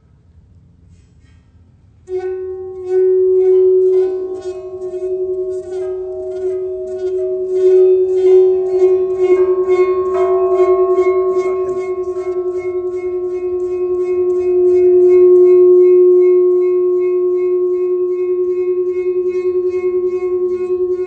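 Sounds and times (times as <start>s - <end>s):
singing bowl humming tone: 2.1s - 21.0s.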